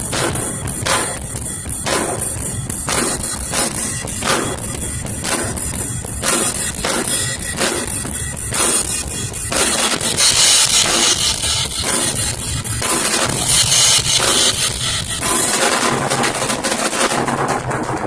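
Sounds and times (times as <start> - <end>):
cymbals ringing: 0.0 - 17.4
bass drum: 0.0 - 18.0.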